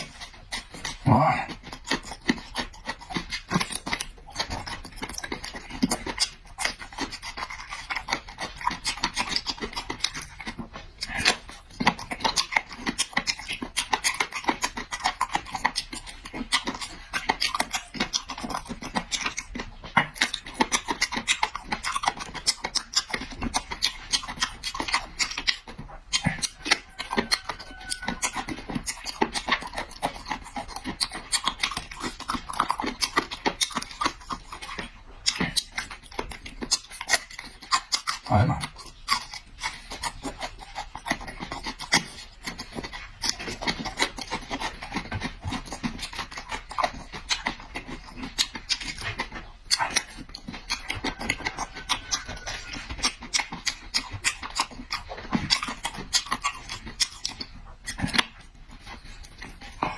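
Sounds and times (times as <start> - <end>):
crunching and chewing food: 0.0 - 59.9.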